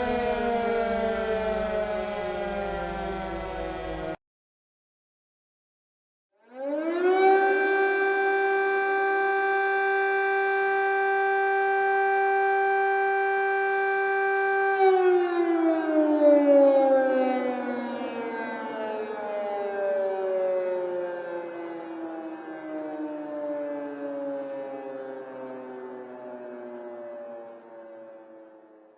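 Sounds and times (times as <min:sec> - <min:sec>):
civil defense siren: 0:00.0 - 0:04.2, 0:06.3 - 0:28.9.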